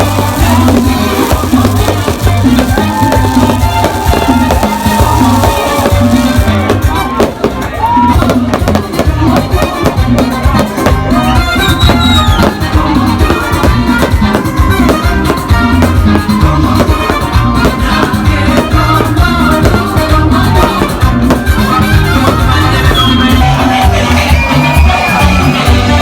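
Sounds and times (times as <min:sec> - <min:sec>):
loud latin dance music: 0:00.0 - 0:26.0.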